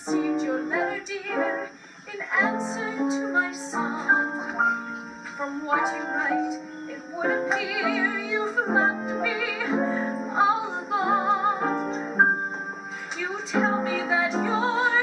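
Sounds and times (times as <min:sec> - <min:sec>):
woman singing a ballad: 0:00.0 - 0:15.0
instrumental accompaniment: 0:02.5 - 0:15.0.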